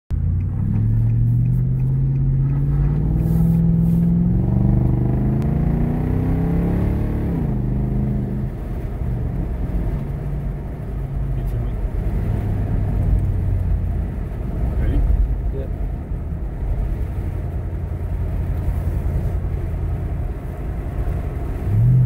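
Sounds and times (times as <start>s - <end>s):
car engine accelerating: 0.1s - 22.0s.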